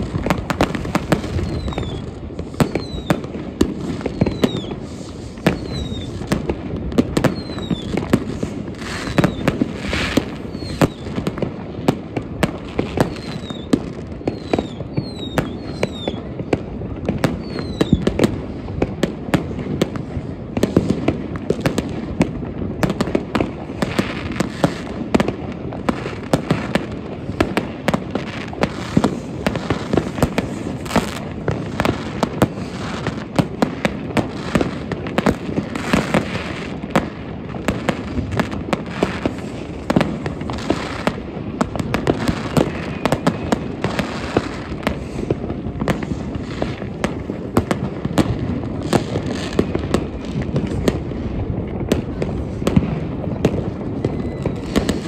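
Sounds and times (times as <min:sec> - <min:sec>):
falling firework whistles: 0:00.0 - 0:55.0
fireworks bangs and pops: 0:00.0 - 0:55.0.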